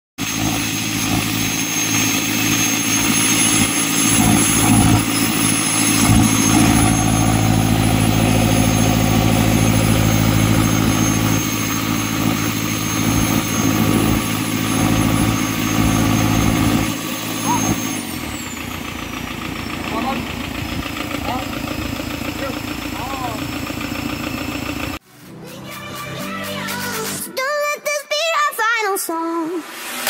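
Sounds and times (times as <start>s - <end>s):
diesel engine idling: 0.2s - 25.0s
engine knocking: 0.2s - 25.0s.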